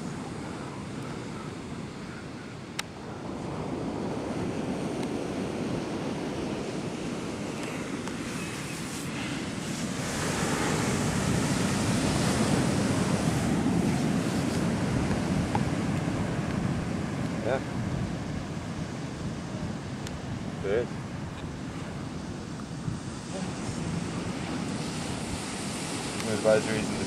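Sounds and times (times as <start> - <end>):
ocean waves washing: 0.0 - 27.0
wind on microphone: 0.0 - 27.0.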